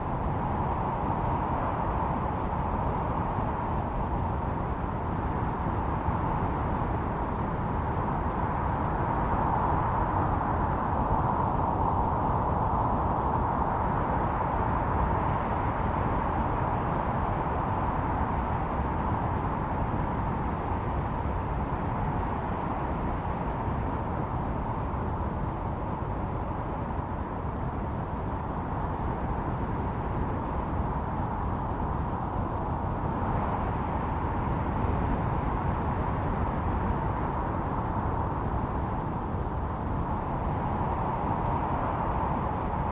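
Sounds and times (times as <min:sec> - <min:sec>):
howling wind: 0:00.0 - 0:42.9.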